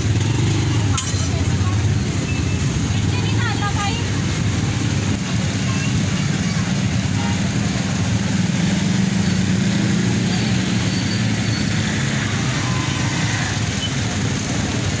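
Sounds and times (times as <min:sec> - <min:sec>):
traffic and engine rumble: 0:00.0 - 0:15.0.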